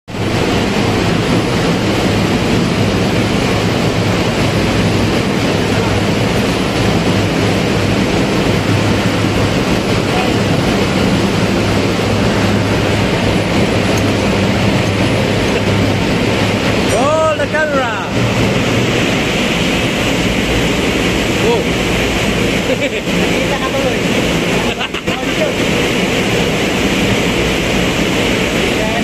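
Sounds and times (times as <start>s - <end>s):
engine room machinery roar: 0.1s - 29.0s.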